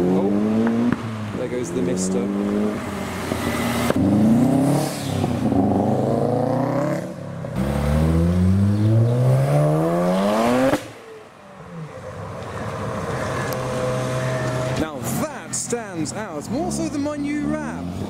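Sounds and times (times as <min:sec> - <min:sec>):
rotary engine accelerating hard: 0:00.0 - 0:11.0, 0:11.6 - 0:15.8
car engine revving: 0:00.0 - 0:18.0.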